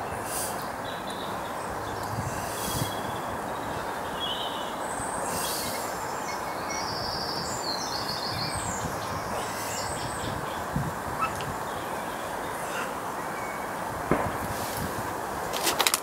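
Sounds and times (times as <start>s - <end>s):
small bird singing: 0.0s - 13.9s
steady outdoor rush: 0.0s - 16.0s.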